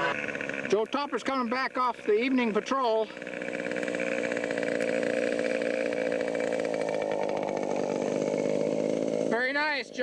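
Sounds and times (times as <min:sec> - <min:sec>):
model airplane engine running: 0:00.0 - 0:10.0.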